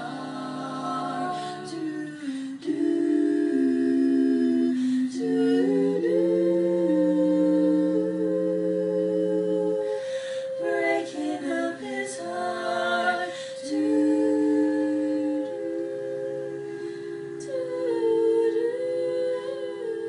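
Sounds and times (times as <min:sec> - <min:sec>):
women singing in close harmony: 0:00.0 - 0:20.0.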